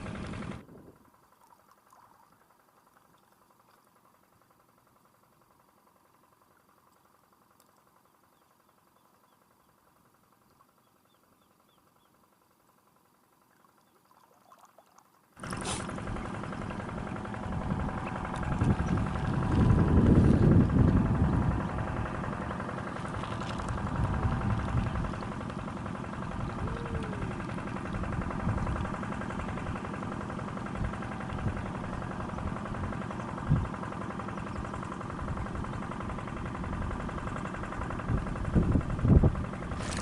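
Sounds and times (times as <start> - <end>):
engine running steadily: 0.0 - 40.0.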